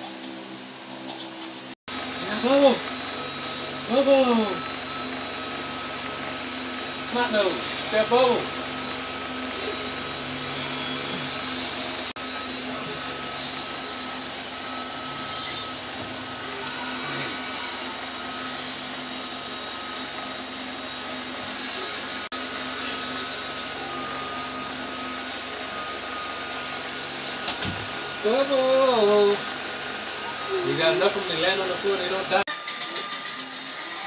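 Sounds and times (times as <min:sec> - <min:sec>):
small fan motor whirring: 0:00.0 - 0:34.0.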